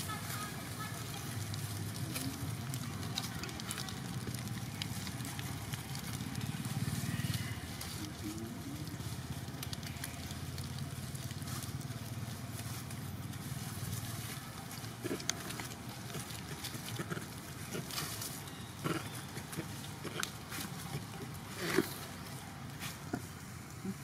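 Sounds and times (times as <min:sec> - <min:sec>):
dry leaves rustling: 0:00.0 - 0:24.0.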